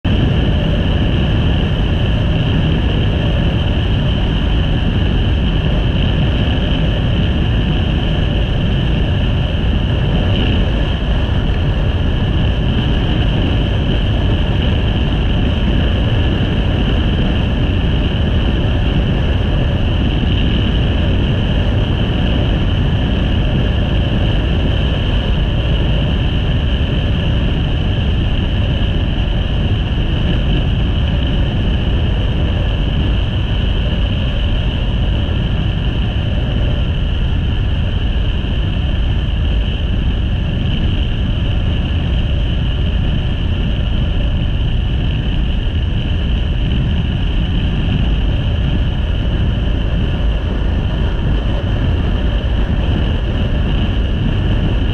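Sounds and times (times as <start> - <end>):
wind rush on microphone: 0.0 - 54.9.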